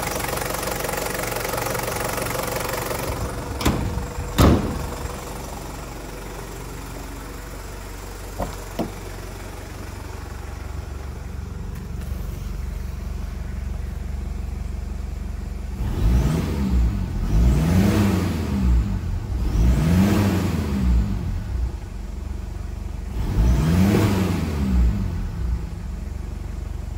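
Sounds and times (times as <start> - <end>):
diesel engine idling and revving: 0.0 - 26.9.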